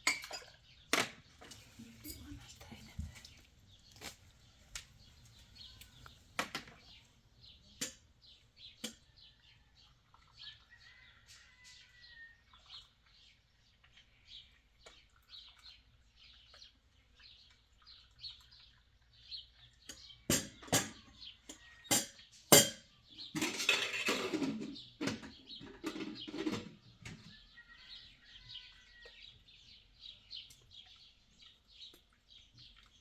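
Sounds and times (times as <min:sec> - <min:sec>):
small birds chirping: 0:00.0 - 0:23.6, 0:24.6 - 0:33.0.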